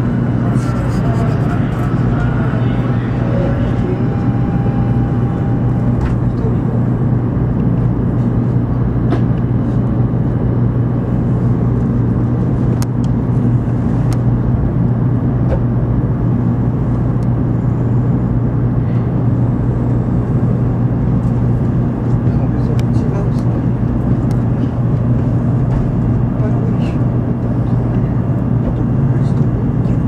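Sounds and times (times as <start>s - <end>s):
train car low hum: 0.0s - 30.0s.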